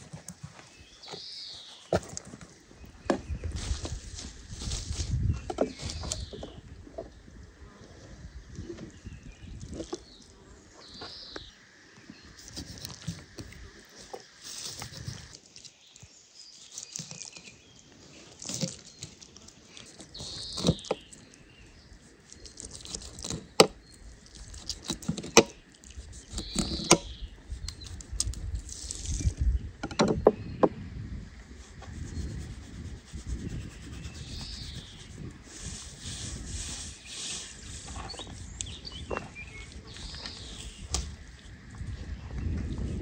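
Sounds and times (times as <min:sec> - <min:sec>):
birds chirping: 0:00.0 - 0:07.4, 0:08.2 - 0:28.3, 0:31.9 - 0:43.0.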